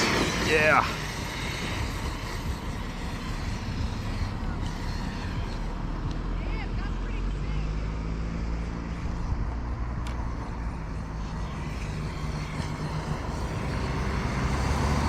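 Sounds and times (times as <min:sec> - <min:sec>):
electric rc truck running: 0:00.0 - 0:15.0.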